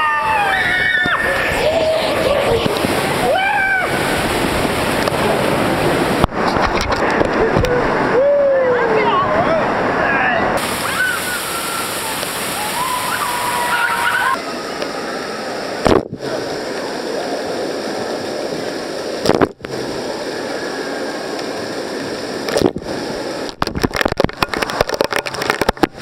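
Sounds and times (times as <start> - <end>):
water pouring and splashing: 0.0 - 8.2, 9.8 - 26.0
water jets spraying: 0.0 - 8.8, 9.7 - 26.0.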